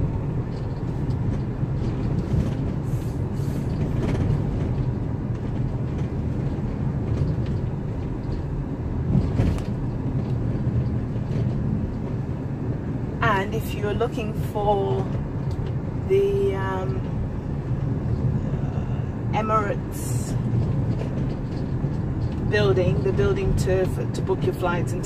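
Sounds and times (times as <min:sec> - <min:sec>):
engine and tyre rumble: 0:00.0 - 0:25.0.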